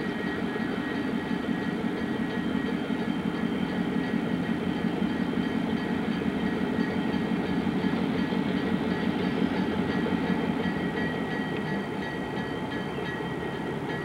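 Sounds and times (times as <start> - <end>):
diesel locomotive engine rumble: 0.0 - 14.0.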